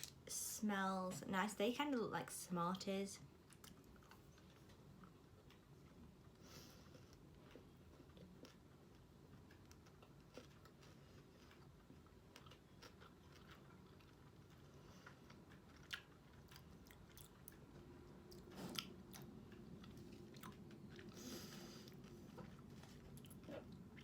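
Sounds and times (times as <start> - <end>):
crunching and chewing candy: 3.4 - 24.0.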